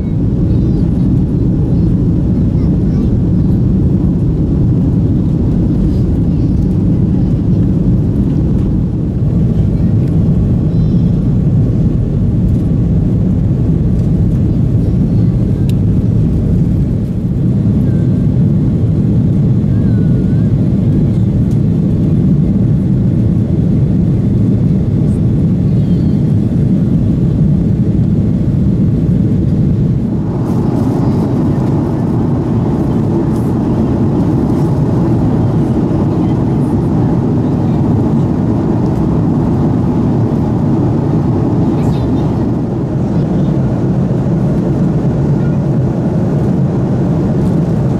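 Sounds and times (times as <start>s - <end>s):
jet cabin engine rush: 0.0s - 47.9s.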